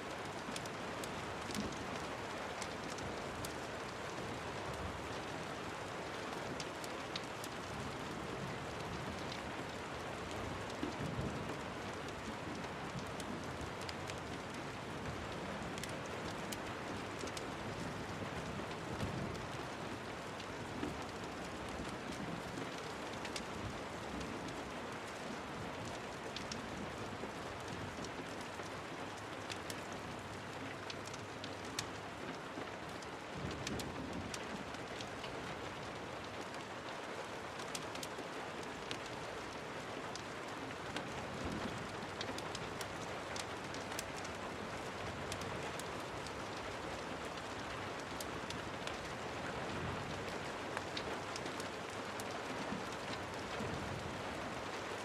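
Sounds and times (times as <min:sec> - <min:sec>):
raindrop ticks: 0:00.0 - 0:55.0
steady rain: 0:00.0 - 0:55.0.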